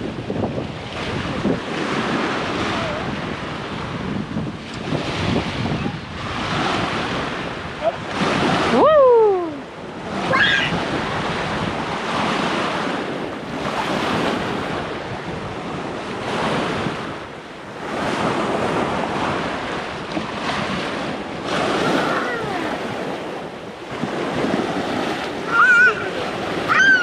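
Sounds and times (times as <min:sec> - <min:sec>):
waves washing onto beach: 0:00.0 - 0:27.0
wind buffeting microphone: 0:00.0 - 0:27.0.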